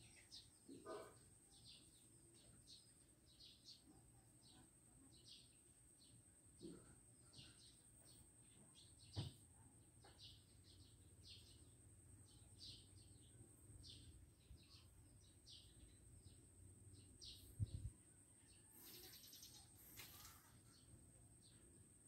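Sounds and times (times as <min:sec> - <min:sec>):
small bird chirping: 0:00.0 - 0:21.9.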